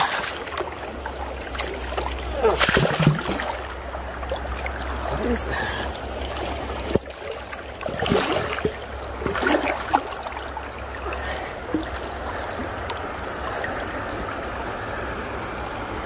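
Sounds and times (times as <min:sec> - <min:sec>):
water splashing: 0:00.0 - 0:15.5
creek water running: 0:00.0 - 0:16.0.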